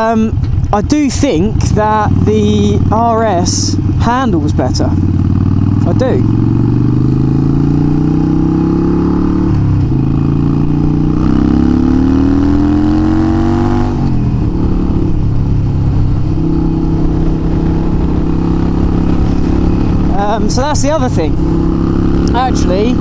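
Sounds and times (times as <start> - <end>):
motorcycle engine under way: 0.0 - 23.0.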